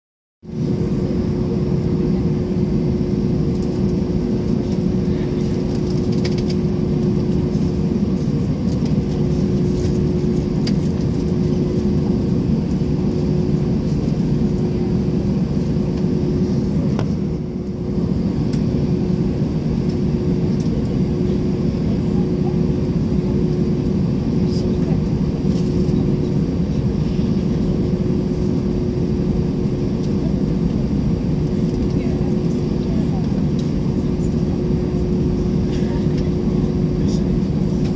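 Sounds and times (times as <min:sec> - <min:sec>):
airliner cabin rumble: 0:00.5 - 0:37.9.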